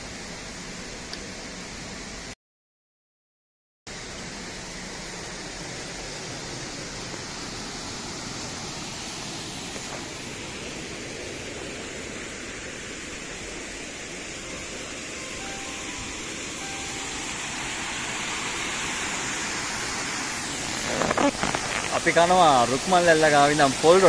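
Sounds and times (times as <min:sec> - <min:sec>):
waterfall rushing: 0:04.0 - 0:24.0.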